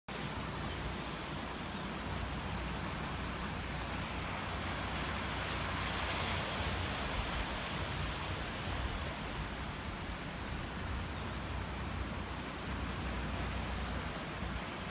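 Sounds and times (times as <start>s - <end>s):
sea surf washing on rocks: 0.1s - 14.9s
wind rumble on microphone: 0.1s - 14.9s.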